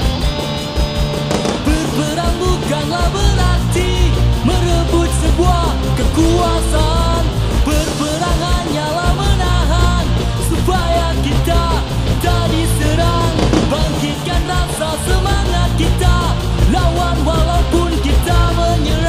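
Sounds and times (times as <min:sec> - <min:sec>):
punk rock song with singer: 0:00.0 - 0:19.0.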